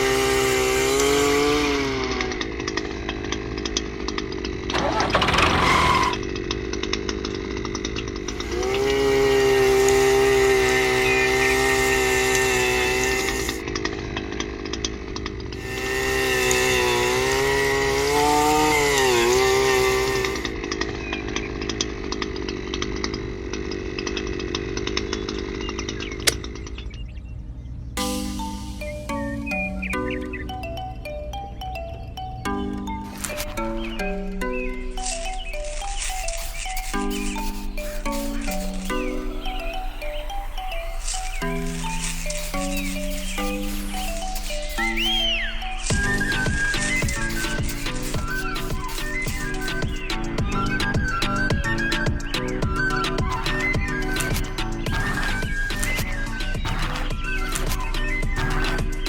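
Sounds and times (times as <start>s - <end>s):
small motor whining: 0.0s - 27.2s, 32.4s - 59.0s.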